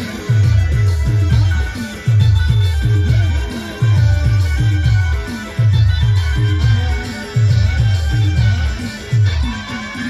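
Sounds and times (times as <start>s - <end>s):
keyboard melody: 0.0s - 10.0s.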